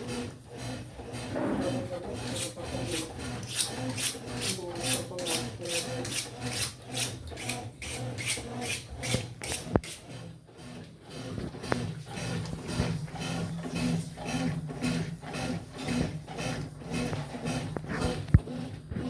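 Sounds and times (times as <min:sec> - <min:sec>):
washing machine rasping scrape: 0:00.0 - 0:19.0.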